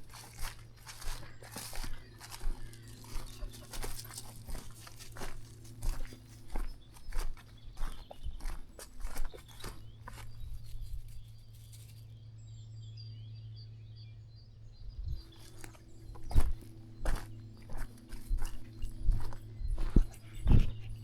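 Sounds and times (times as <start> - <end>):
footsteps crunching on path: 0.0 - 12.0, 15.1 - 21.0
faint low hum: 0.0 - 21.0
small birds chirping: 0.0 - 21.0.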